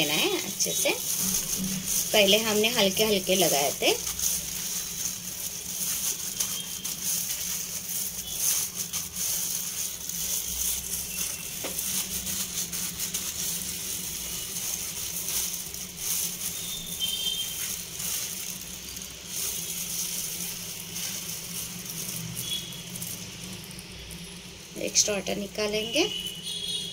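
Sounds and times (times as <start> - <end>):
gloved hand rustling in flour: 0.0 - 26.9.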